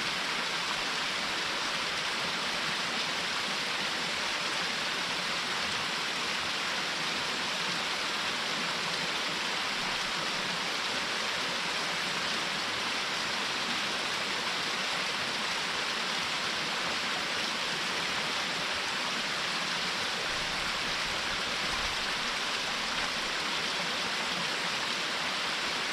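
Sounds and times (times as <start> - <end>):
small waterfall splashing: 0.0 - 25.9.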